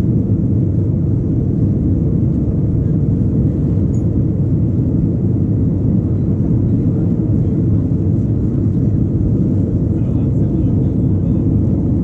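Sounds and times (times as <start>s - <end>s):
jet cabin engine rumble: 0.0s - 12.0s.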